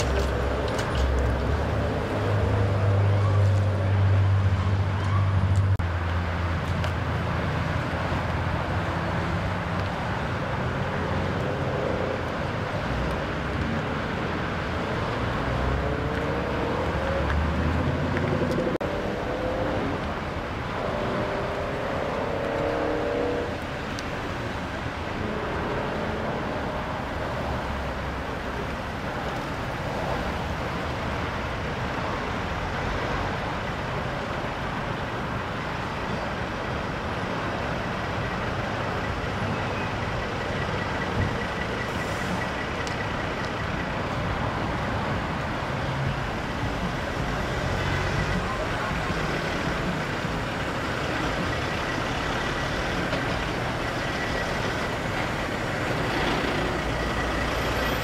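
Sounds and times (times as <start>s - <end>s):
freeway traffic noise: 0.0s - 58.0s
vehicles passing: 0.0s - 58.0s.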